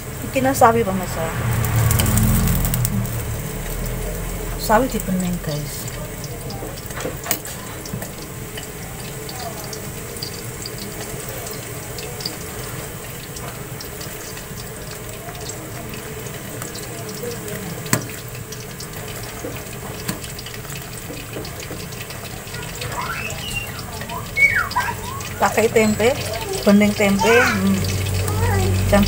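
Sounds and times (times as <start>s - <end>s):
soup bubbling: 0.0s - 29.0s.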